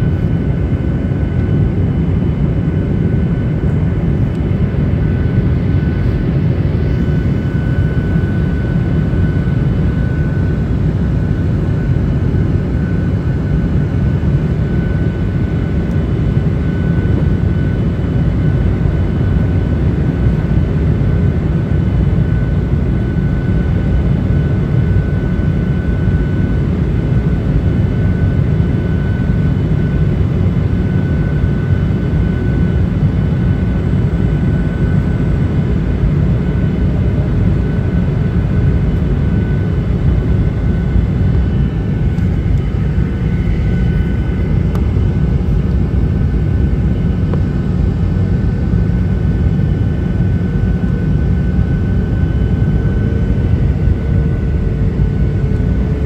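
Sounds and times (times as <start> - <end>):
aircraft engines and airflow rumble: 0.0 - 56.0.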